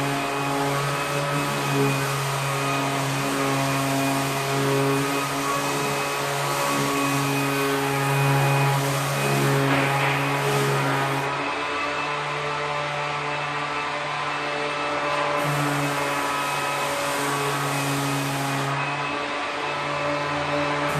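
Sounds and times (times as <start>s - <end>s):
orbital sander humming and hissing: 0.0s - 20.9s.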